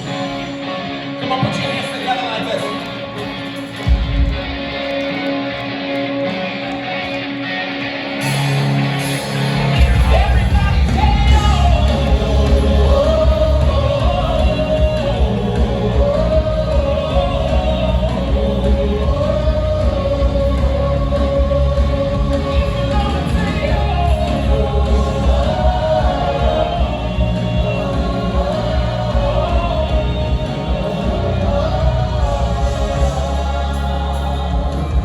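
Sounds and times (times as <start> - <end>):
loud band playing: 0.0 - 35.0
people singing: 0.0 - 35.0.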